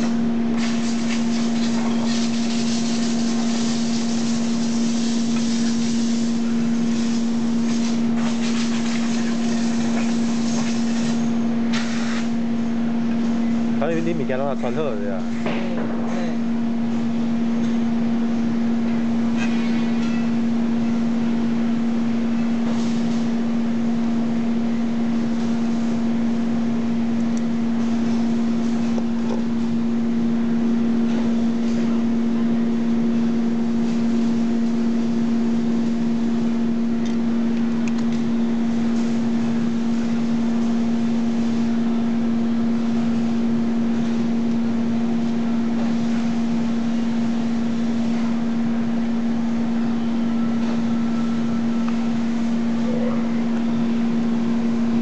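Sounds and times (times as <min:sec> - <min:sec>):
steady machine hum: 0:00.0 - 0:55.0
workshop noise hiss: 0:00.0 - 0:55.0.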